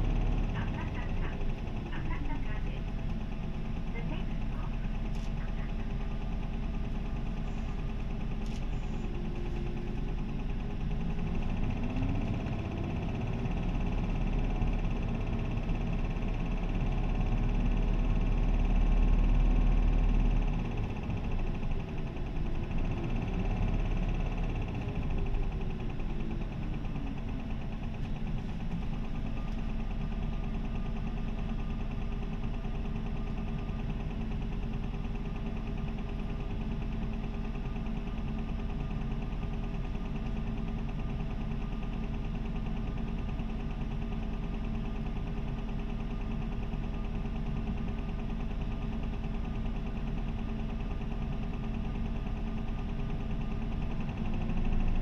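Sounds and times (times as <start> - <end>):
bus diesel engine: 0.0 - 55.0.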